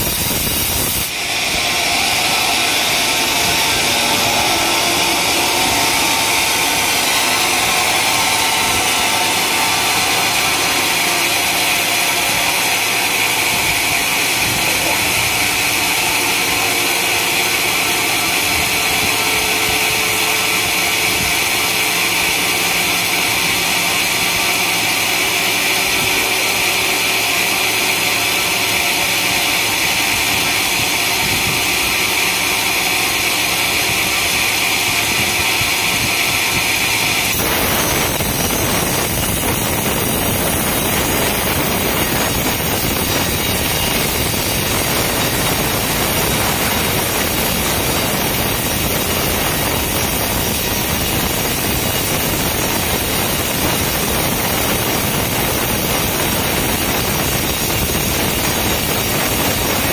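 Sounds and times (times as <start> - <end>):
band saw blade cutting log: 0.0 - 59.9.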